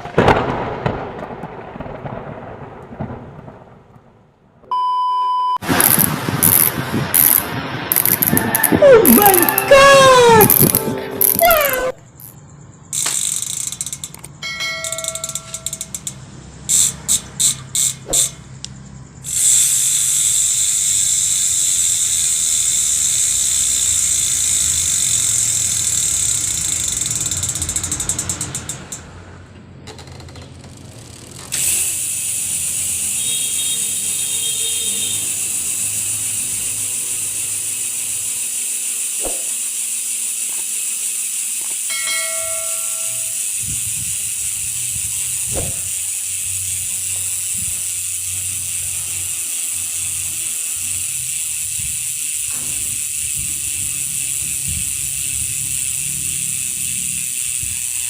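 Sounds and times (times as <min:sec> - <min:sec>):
bicycle hub ratcheting buzz: 0:05.6 - 0:58.0.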